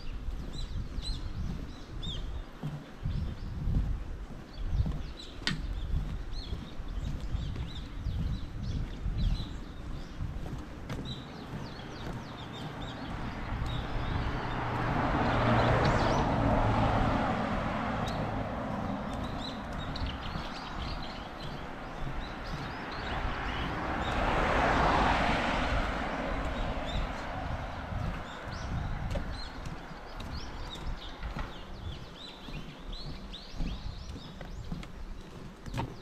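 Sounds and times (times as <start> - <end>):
birds chirping: 0.0 - 36.0
vehicles passing on road: 0.0 - 36.0.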